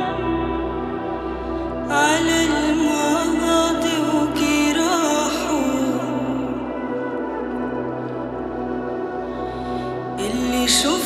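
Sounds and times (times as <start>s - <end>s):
vocal deep house music: 0.0s - 11.0s.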